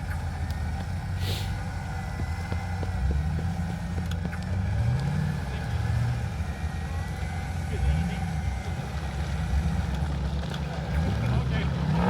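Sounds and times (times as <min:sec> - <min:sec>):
off-road vehicle engine: 0:00.0 - 0:12.0.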